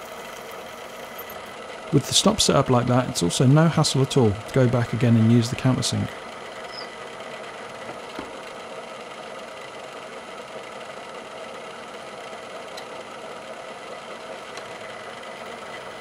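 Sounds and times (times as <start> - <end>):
milling machine spindle running: 0.0 - 16.0.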